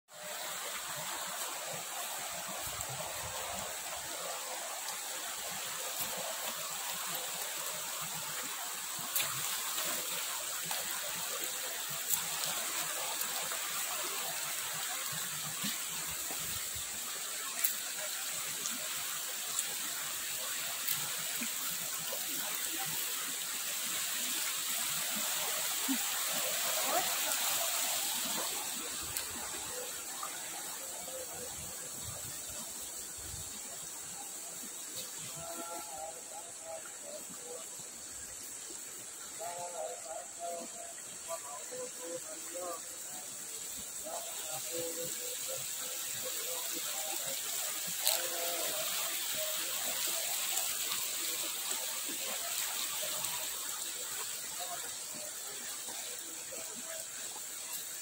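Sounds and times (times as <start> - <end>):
stream rushing: 0.1 - 58.0.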